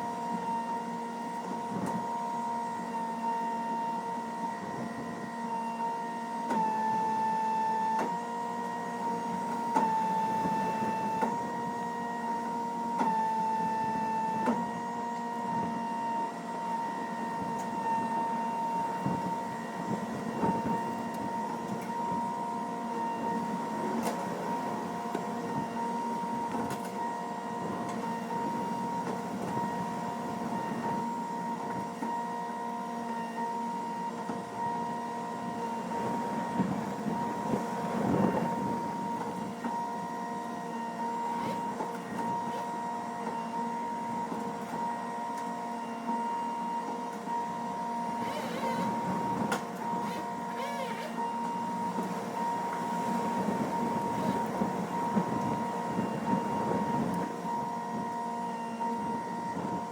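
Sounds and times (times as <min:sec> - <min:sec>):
machine whine: 0:00.0 - 0:59.9.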